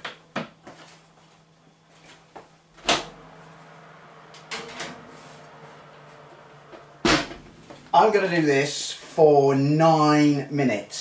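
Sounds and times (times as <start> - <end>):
oven hum: 0.0 - 11.0.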